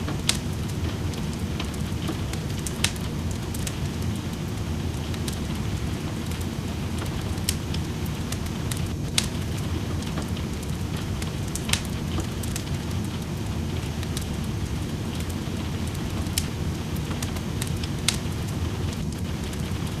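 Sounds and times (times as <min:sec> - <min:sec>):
rain rushing: 0:00.0 - 0:20.0
wood fire crackling and popping: 0:00.0 - 0:20.0.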